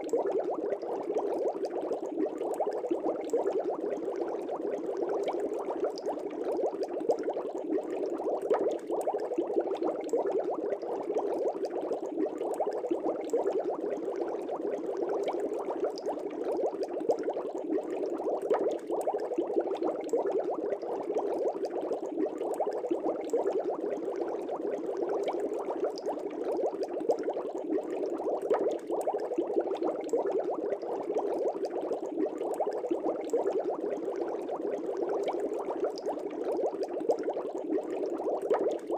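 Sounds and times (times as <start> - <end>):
air bubbles in fish tank: 0.0 - 38.9.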